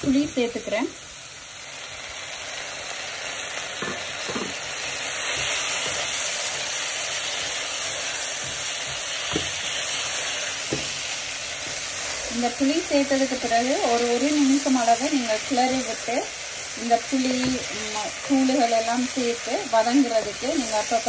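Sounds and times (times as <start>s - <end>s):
food sizzling in wok: 0.0s - 21.0s.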